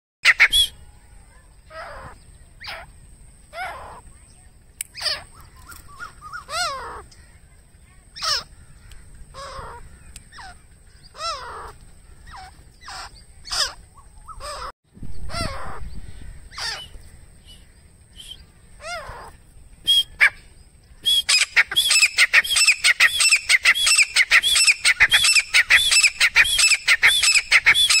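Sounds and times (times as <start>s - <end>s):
francolin calling: 0.2s - 28.0s.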